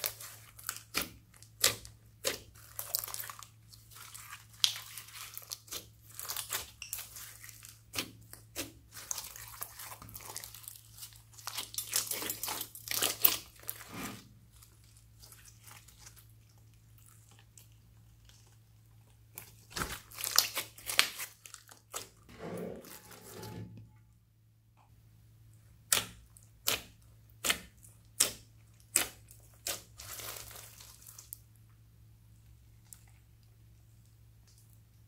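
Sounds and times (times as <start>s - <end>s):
slime squelching: 0.0s - 23.5s, 25.5s - 31.6s.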